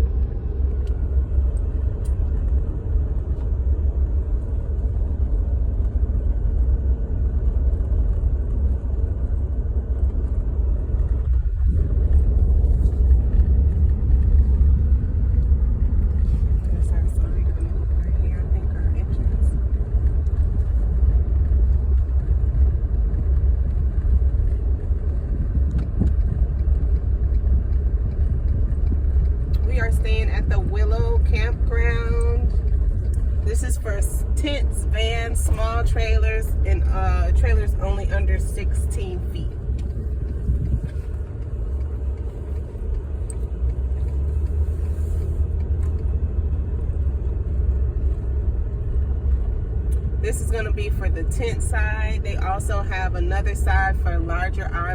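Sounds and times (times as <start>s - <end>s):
truck driving rumble: 0.0s - 54.9s.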